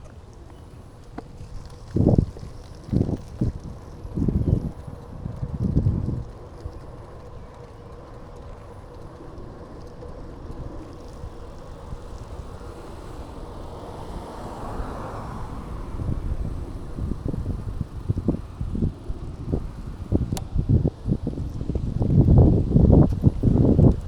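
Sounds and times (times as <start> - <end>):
passing vehicle: 0.0 - 24.0
wind rumbling on microphone: 0.0 - 24.0.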